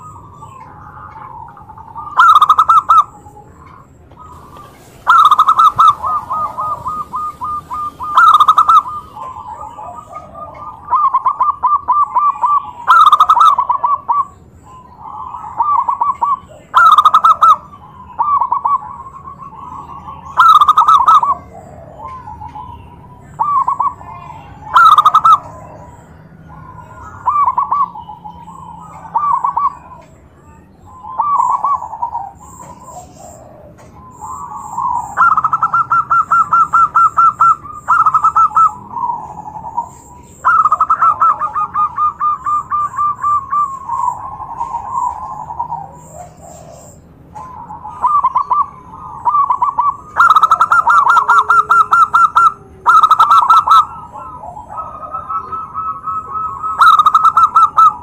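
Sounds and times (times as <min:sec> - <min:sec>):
doves cooing: 0:00.0 - 0:58.0
other birds calling: 0:00.0 - 0:58.0.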